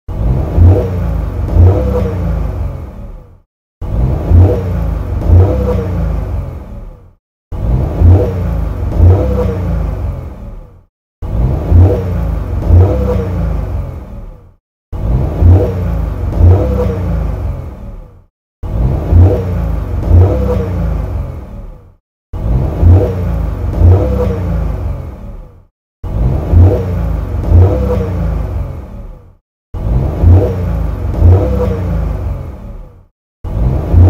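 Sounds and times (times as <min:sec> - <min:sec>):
car engine revving: 0:00.1 - 0:34.0.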